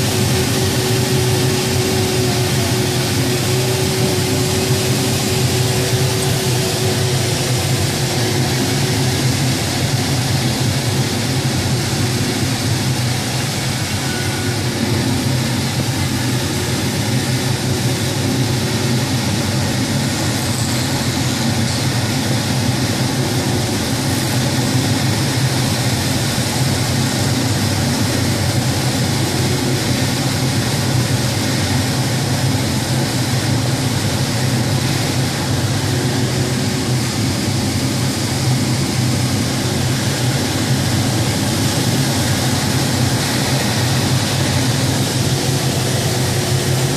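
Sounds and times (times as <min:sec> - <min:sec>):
wind rushing over cockpit canopy: 0:00.0 - 0:46.9.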